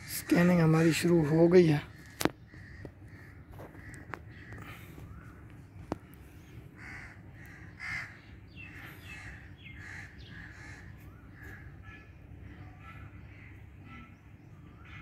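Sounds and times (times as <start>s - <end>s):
crows cawing: 0.0s - 14.2s
low background rumble: 0.0s - 15.0s.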